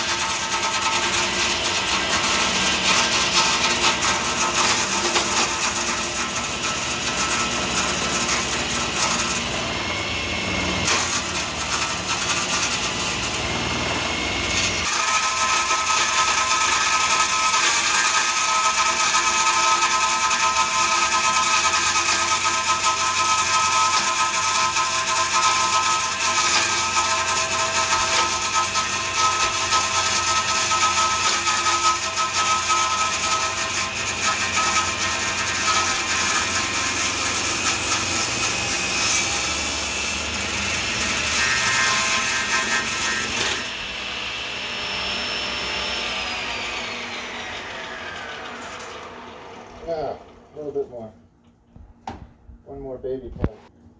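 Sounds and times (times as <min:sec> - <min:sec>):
saw blade spinning down: 0:00.0 - 0:50.6
saw blade cutting wood: 0:00.0 - 0:50.8
table saw whine: 0:00.0 - 0:51.1.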